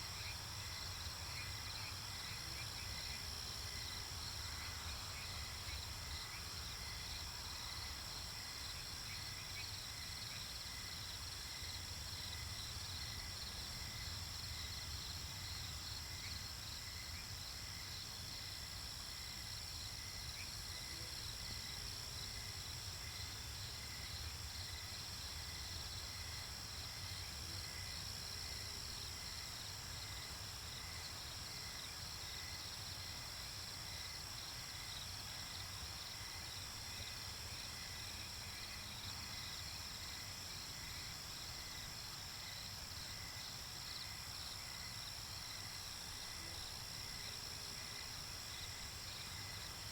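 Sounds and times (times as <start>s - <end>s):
crickets and insects chirping: 0.0s - 49.9s.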